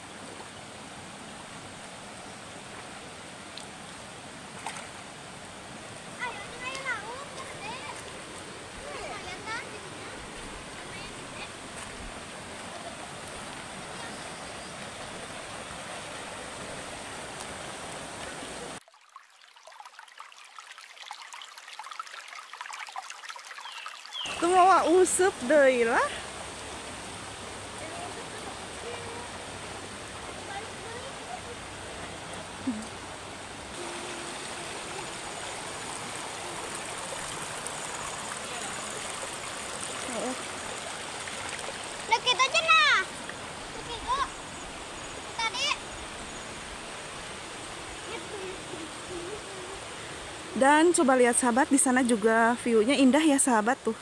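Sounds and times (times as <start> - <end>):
faint water trickle with ticks: 0.0 - 54.0
stream rushing over rocks: 0.0 - 54.0.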